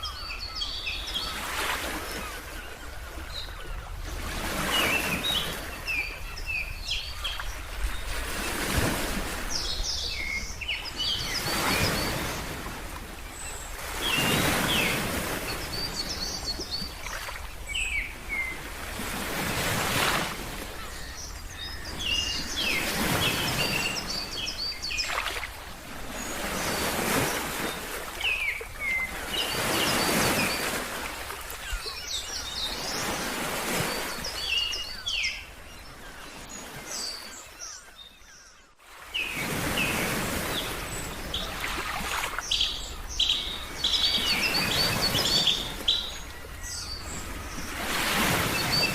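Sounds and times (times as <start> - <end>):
small birds chirping: 0.0 - 8.9, 9.5 - 12.6, 13.2 - 18.7, 20.2 - 48.9.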